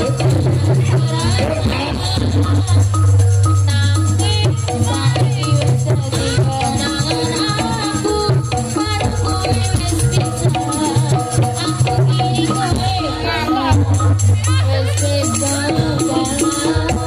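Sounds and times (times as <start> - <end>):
drumming: 0.0 - 17.0
pitched melodic lines: 0.9 - 17.0.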